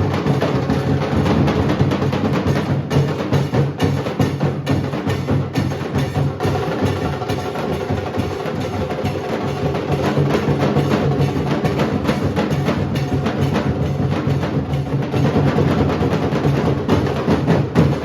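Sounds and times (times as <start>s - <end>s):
dhol drums playing: 0.0s - 18.0s.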